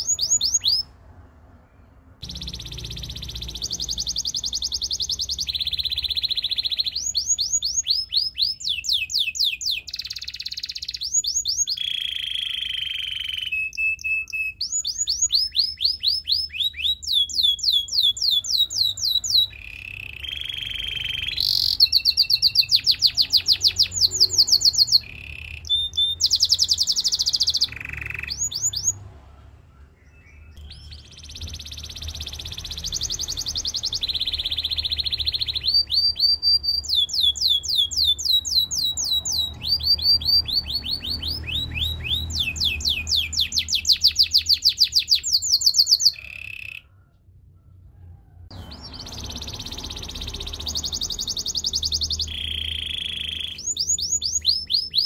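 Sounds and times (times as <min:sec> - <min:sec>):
canary singing: 0:00.0 - 0:47.1, 0:48.2 - 0:55.0.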